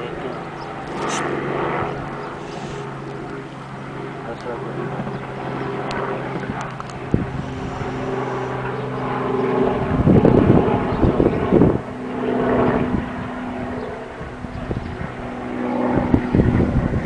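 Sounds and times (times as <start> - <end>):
engine droning: 0.0 - 17.0
wind buffeting microphone: 0.2 - 17.0.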